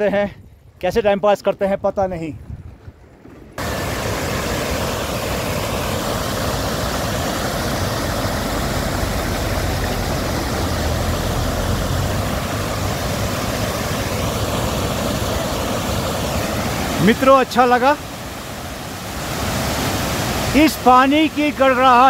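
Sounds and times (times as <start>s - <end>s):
waterfall rushing water: 3.6s - 22.0s.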